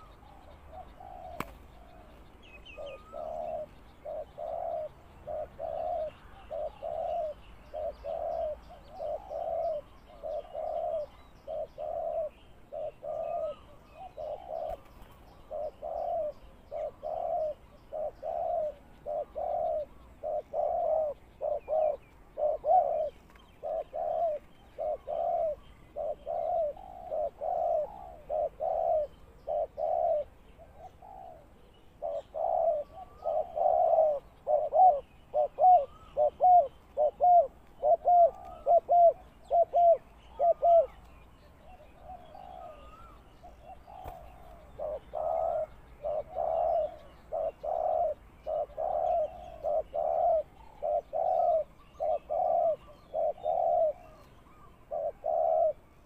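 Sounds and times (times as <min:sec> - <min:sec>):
doves cooing: 0:00.0 - 0:56.0
small birds chirping: 0:00.0 - 0:56.0.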